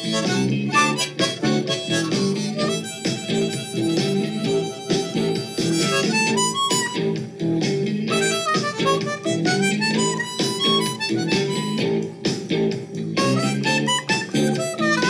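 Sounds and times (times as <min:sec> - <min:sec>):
blues harmonica: 0:00.0 - 0:15.0
rhythmic backing with guitar: 0:00.0 - 0:15.0.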